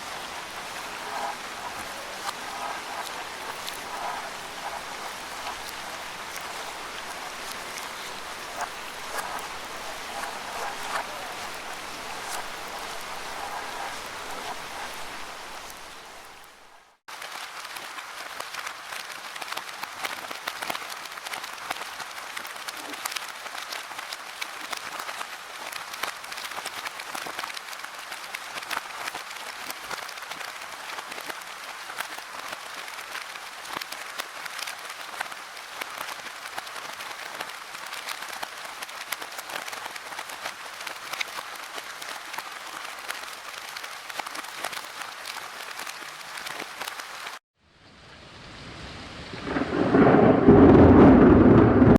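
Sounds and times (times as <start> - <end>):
rain pattering in a forest: 0.0 - 51.9.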